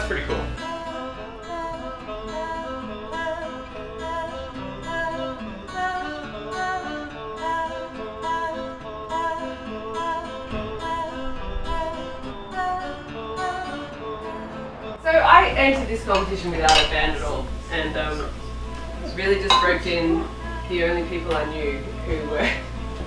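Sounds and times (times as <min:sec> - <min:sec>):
acoustic guitar: 0:00.0 - 0:23.0
person singing: 0:00.0 - 0:23.0.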